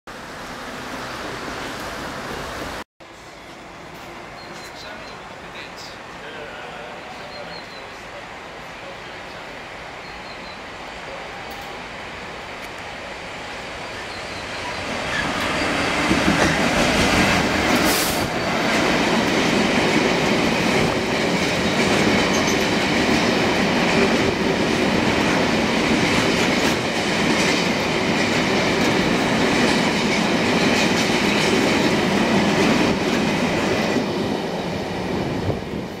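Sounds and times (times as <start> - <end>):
freight train passing: 0.1 - 36.0.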